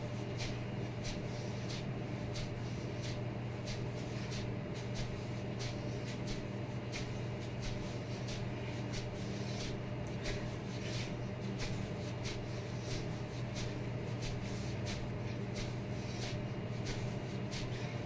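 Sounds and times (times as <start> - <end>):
rhythmic swishing of punches: 0.0 - 18.0
steady low hum: 0.0 - 18.0.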